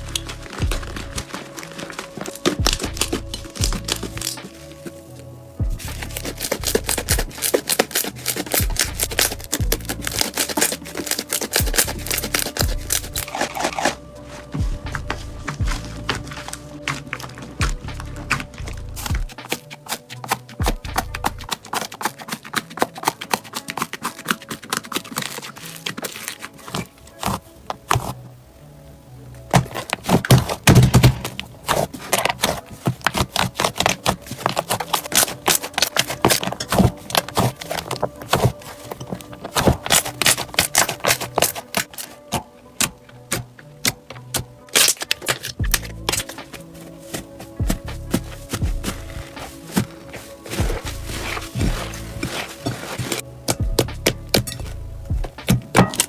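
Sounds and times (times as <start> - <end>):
background music: 0.0 - 56.0.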